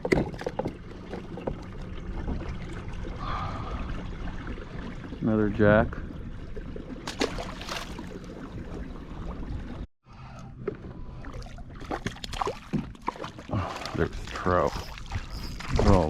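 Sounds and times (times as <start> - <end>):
water lapping around kayak: 0.0 - 16.0.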